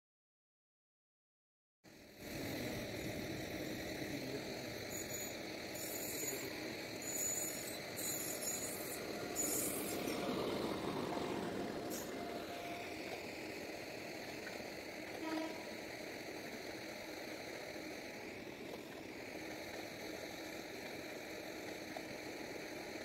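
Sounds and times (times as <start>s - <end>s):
short high hissing bursts: 1.9s - 23.0s
train rail rumble: 1.9s - 23.0s.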